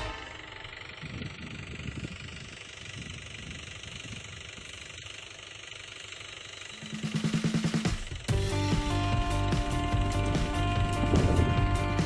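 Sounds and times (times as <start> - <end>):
distant tractor engines running: 0.0 - 12.0.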